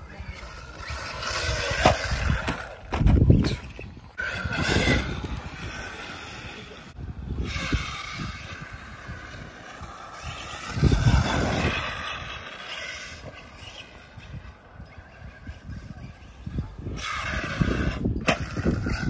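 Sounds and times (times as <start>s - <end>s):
rc buggy motor whining: 0.0s - 19.0s.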